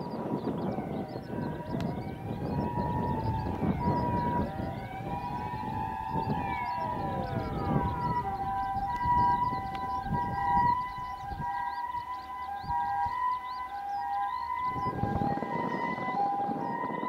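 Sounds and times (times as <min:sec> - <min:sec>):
emergency siren: 0:00.0 - 0:17.0.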